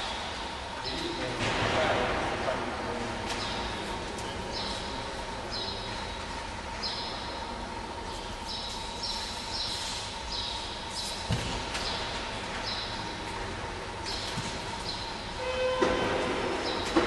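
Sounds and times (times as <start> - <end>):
faint constant hum: 0.0 - 17.0.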